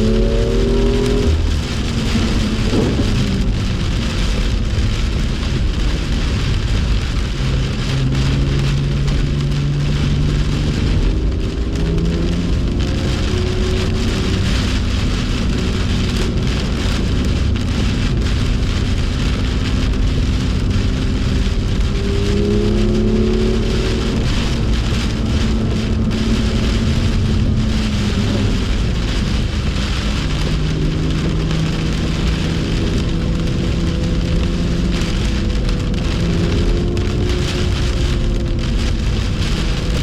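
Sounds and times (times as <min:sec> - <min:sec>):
car engine accelerating: 0:00.0 - 0:40.0
heavy rain and water spray: 0:00.0 - 0:40.0
small crackles: 0:00.2 - 0:40.0.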